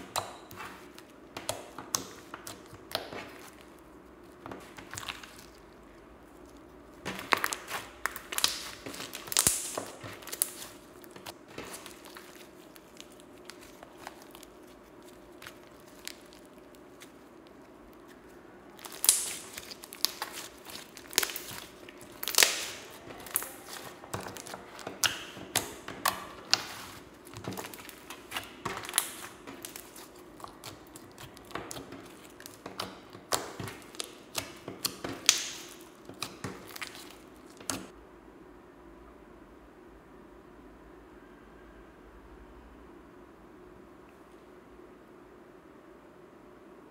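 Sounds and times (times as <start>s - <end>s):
slime squished by hand: 0.0s - 37.9s.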